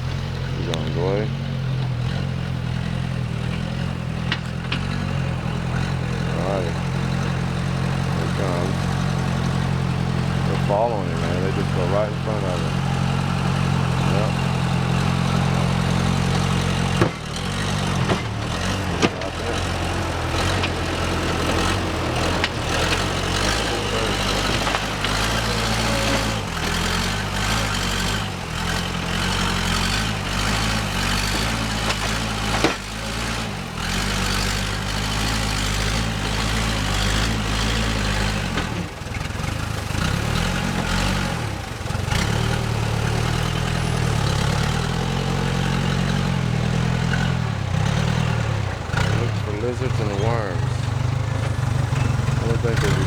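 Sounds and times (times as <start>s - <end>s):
heavy machine engine running: 0.0s - 53.0s.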